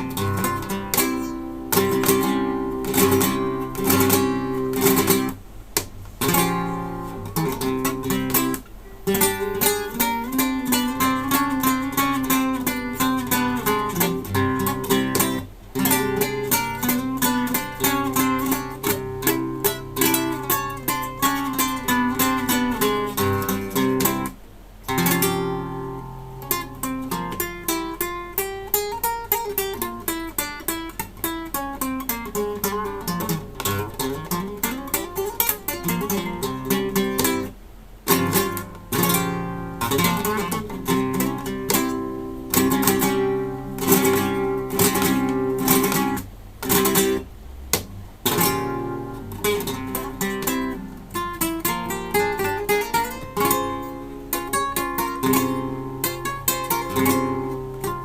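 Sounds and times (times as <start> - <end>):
classical guitar playing: 0.0 - 5.4, 6.1 - 58.0.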